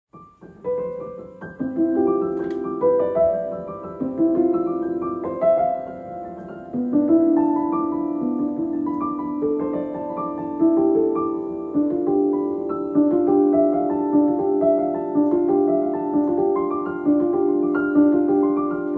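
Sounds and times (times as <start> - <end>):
instrumental music: 0.1 - 18.9.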